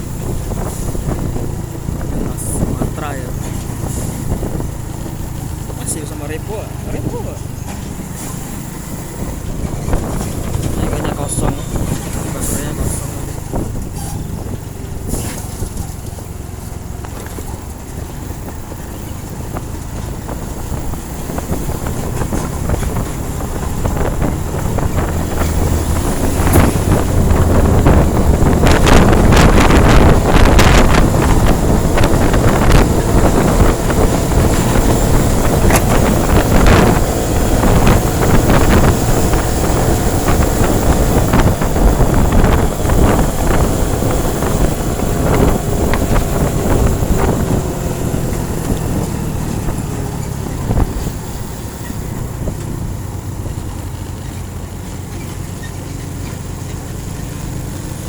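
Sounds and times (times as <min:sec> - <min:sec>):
road and engine rumble: 0:00.0 - 0:58.0
wind buffeting microphone: 0:00.0 - 0:58.0.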